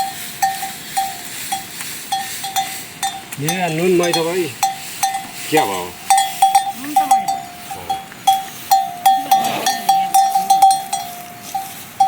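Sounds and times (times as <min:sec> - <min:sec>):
livestock bells clinking: 0:00.0 - 0:12.0.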